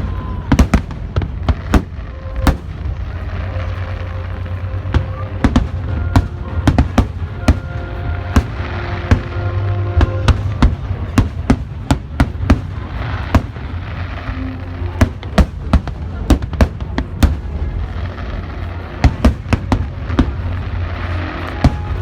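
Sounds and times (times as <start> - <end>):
fireworks bangs: 0.0 - 22.0
low rumble: 0.0 - 22.0
music with held notes: 0.6 - 22.0.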